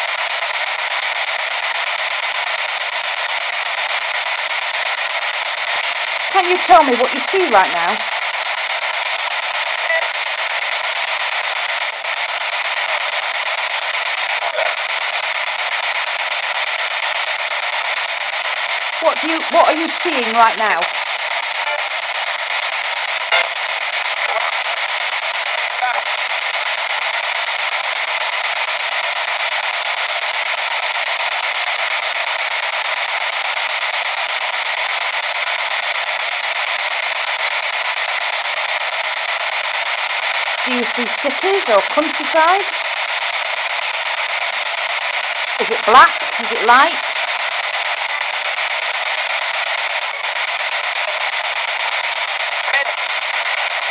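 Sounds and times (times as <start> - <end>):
radio static hiss: 0.0 - 53.9.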